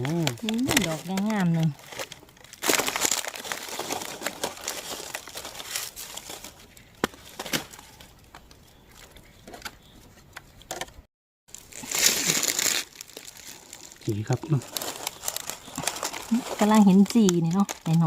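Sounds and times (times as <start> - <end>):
dry leaves rustling and crunching: 0.0 - 9.3, 11.5 - 18.0
twigs snapping: 0.0 - 9.7, 10.6 - 18.0.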